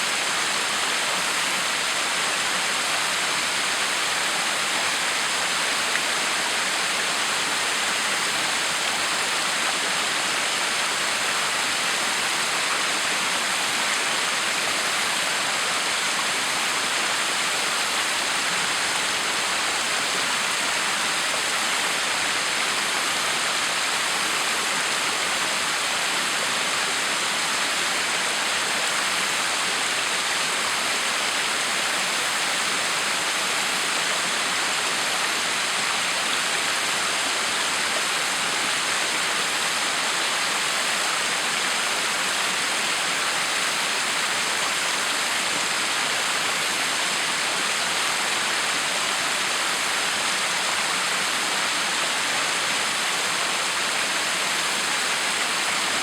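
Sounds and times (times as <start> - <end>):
waterfall pouring and splashing: 0.0 - 56.0.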